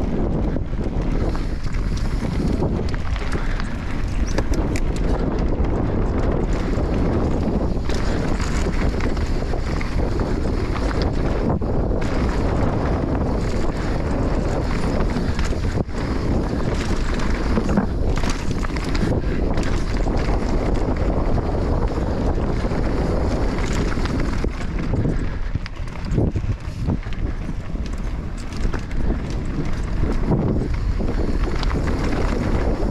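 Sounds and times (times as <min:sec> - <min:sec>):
motorcycle engine running: 0:00.0 - 0:32.9
wind noise on microphone: 0:00.0 - 0:32.9.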